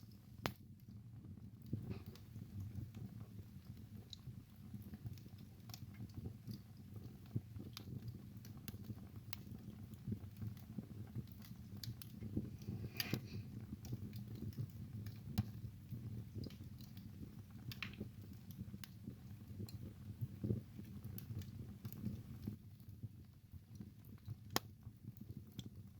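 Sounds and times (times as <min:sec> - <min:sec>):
fire crackling and snapping: 0:00.0 - 0:25.9
low rumble of fire: 0:00.0 - 0:25.9.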